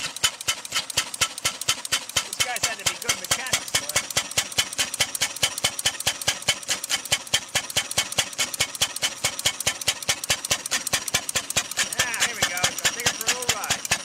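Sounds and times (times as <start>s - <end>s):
single-cylinder engine idling: 0.0s - 14.0s.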